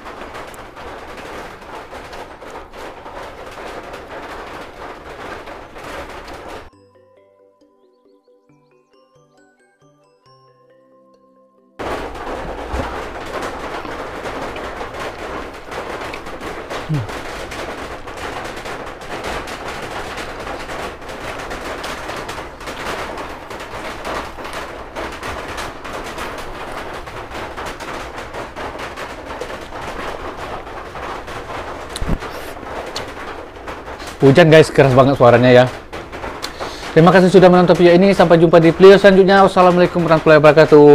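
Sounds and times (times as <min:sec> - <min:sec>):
heavy rain pouring: 0:00.0 - 0:06.7, 0:11.8 - 0:40.9.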